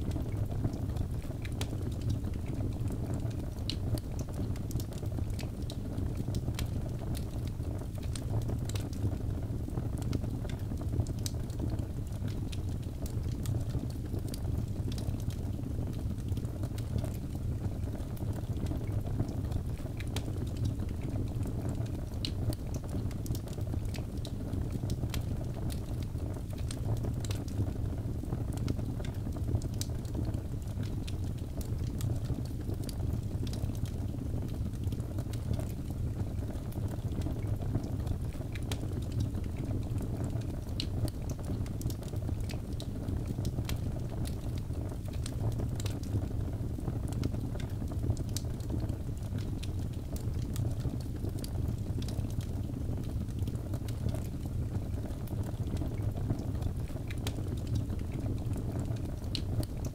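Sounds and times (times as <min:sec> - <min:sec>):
low rumble of burning logs: 0:00.0 - 0:59.9
wood fire crackling: 0:00.0 - 0:59.9.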